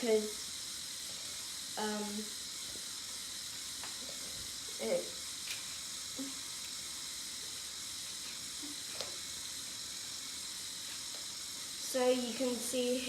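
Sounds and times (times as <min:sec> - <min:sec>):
toy motor and gears whirring: 0:00.0 - 0:13.0.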